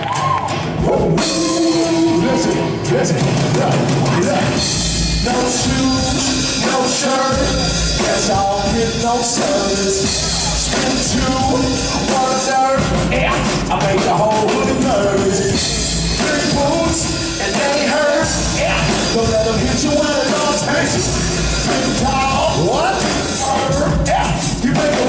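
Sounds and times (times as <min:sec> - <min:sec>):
drums: 0:00.0 - 0:25.0
live concert music: 0:00.0 - 0:25.0
person singing: 0:00.8 - 0:25.0.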